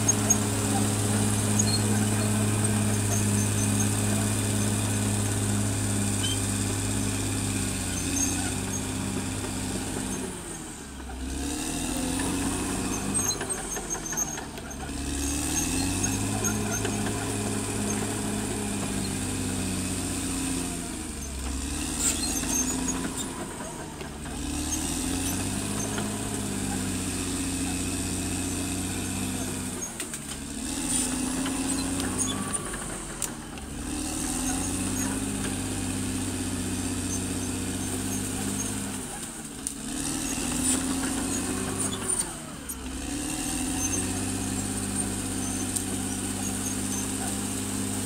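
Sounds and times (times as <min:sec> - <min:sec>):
bulldozer diesel engine running: 0:00.0 - 0:48.0.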